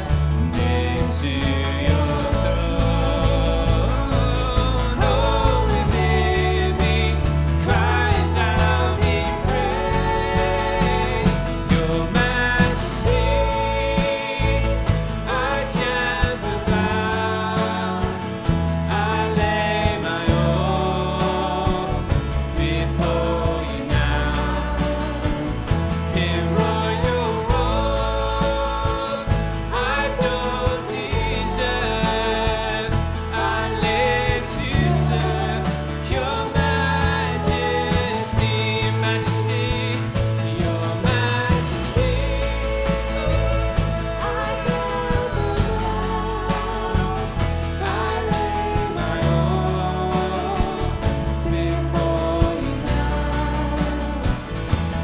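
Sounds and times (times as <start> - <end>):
held bass notes: 0.0 - 55.0
steady drum beat: 0.0 - 55.0.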